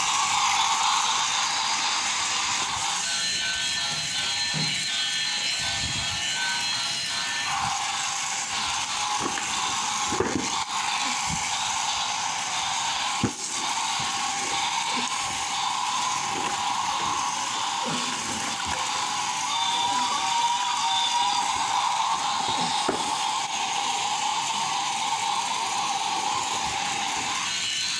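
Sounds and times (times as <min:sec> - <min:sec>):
toy train motor whirring: 0:00.0 - 0:27.9.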